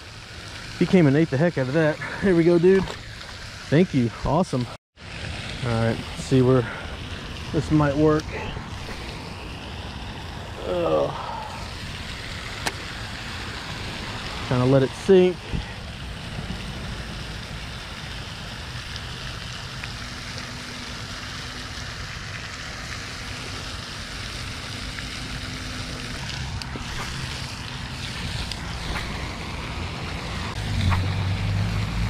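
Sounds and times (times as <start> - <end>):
fountain water splashing: 0.0 - 32.0
wind: 0.0 - 32.0.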